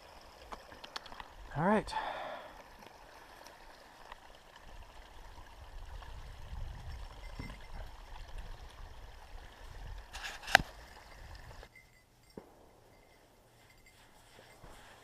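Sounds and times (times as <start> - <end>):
stream trickling: 0.0 - 13.9.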